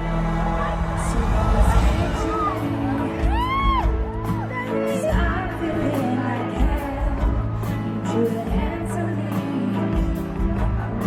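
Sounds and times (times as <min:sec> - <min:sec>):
pop ballad over sound system: 0:00.0 - 0:11.0.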